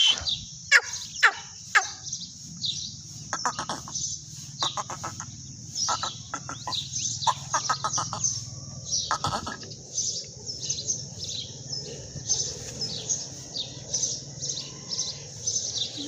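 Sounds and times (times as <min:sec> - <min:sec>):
francolin calling: 0:00.0 - 0:16.0.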